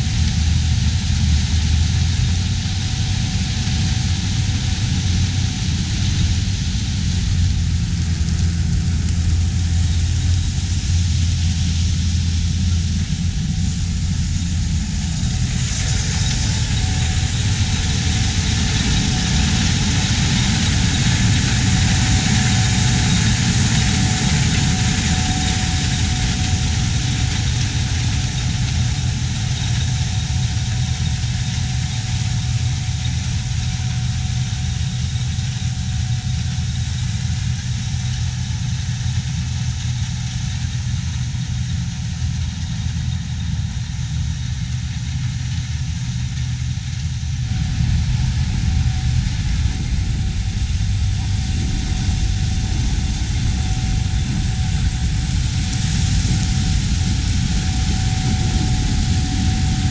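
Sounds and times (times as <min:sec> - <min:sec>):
diesel harvest machinery running: 0:00.0 - 0:59.9.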